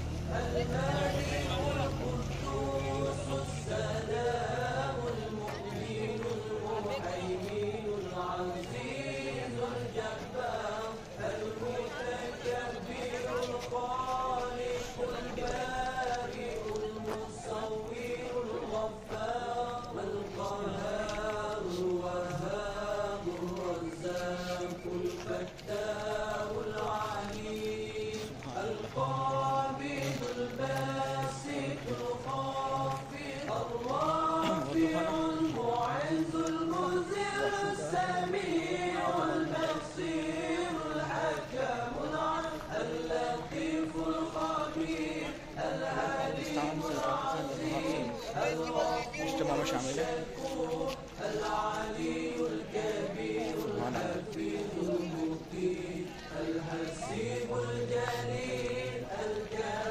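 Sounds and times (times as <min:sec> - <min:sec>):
men chanting devotional melody: 0:00.0 - 0:59.9.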